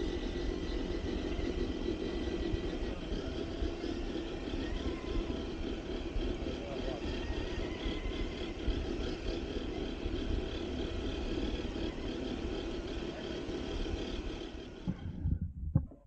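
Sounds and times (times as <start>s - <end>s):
electric motor and gearbox whine: 0.0s - 15.4s.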